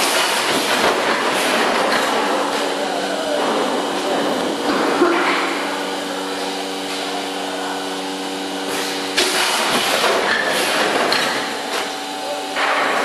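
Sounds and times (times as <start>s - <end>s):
packing machine motor whir: 0.0s - 13.0s.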